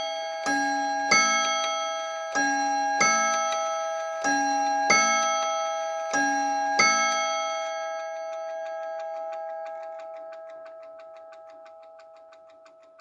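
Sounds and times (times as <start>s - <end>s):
clock chime rods ringing: 0.0s - 13.0s
rapid clock ticking: 0.0s - 13.0s.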